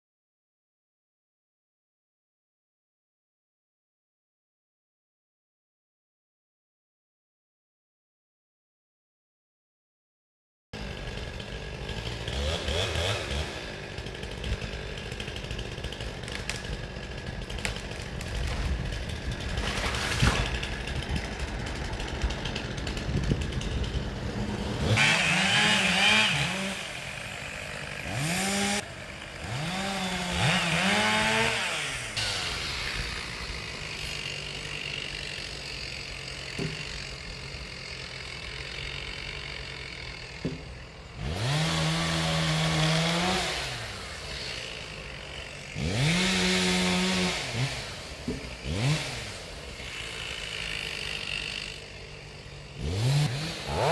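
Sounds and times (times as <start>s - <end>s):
chainsaw revving: 10.8s - 53.9s.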